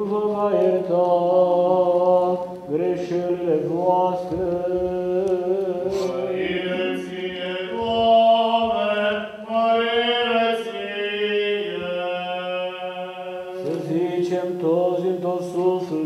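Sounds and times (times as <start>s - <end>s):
choir chanting: 0.0s - 16.0s.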